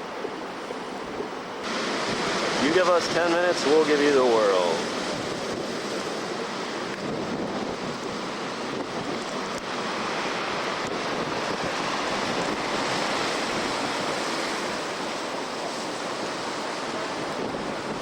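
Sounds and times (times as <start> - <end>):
heavy surf breaking: 0.0 - 18.0
strong wind: 0.0 - 18.0.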